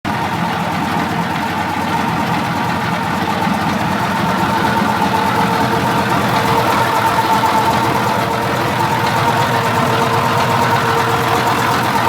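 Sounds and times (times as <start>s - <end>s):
diesel crane engine running: 0.1s - 12.0s
steady whine: 0.1s - 12.0s.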